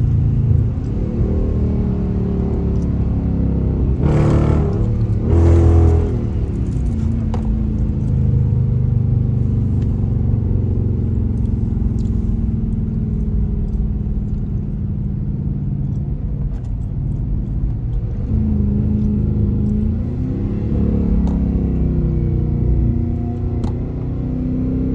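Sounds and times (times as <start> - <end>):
car engine droning: 0.0 - 24.9.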